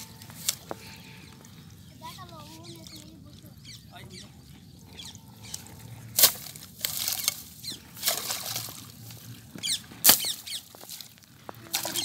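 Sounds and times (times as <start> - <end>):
mud squelching and splashing: 0.0 - 12.0.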